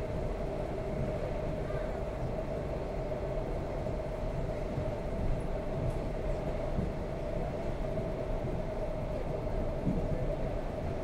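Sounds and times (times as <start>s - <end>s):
train hum: 0.0s - 11.0s
train rumble: 0.0s - 11.0s.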